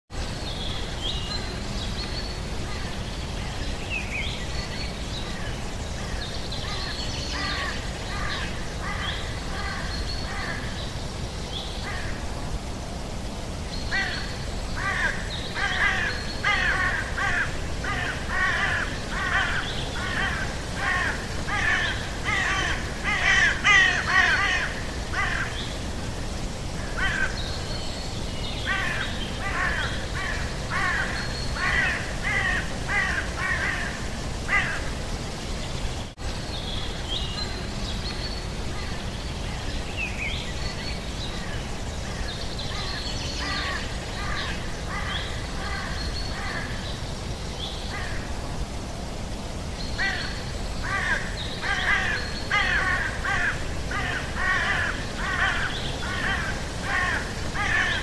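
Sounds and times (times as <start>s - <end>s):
low background noise: 0.1s - 58.0s.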